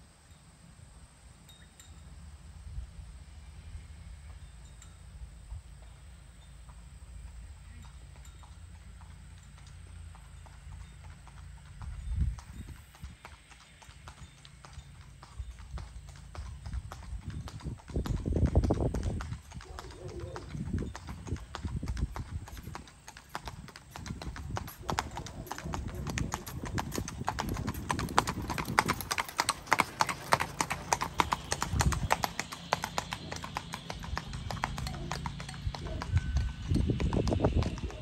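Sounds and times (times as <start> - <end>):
horse hooves clip-clopping on asphalt: 5.4 - 38.0.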